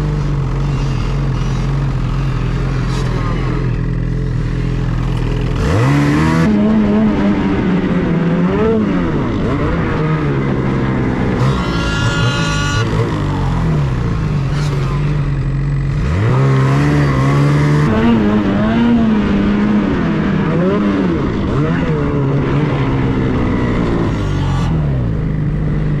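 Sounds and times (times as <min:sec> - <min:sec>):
snowmobile engine revving: 0:00.0 - 0:25.3.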